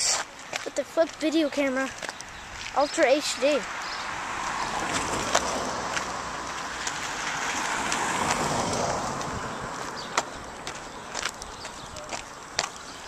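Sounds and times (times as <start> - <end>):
footsteps on asphalt: 0.0 - 13.0.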